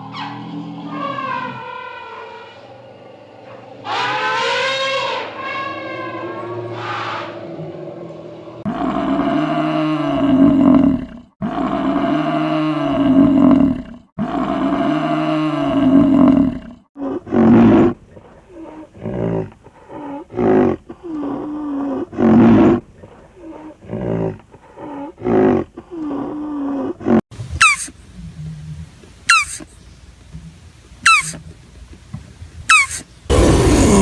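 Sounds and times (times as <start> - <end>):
large animal roaring: 0.0 - 27.2, 33.3 - 34.0
animal grunting calls: 0.0 - 29.7, 32.7 - 34.0.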